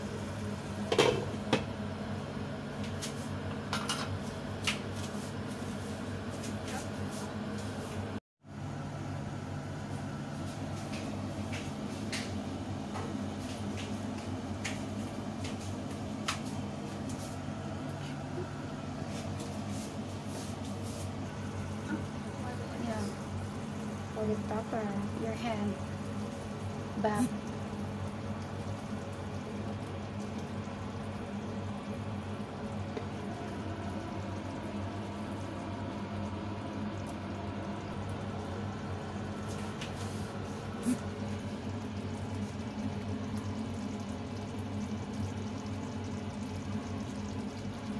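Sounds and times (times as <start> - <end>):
pans simmering on gas stove: 0.0 - 47.9
steady low hum: 0.0 - 47.9.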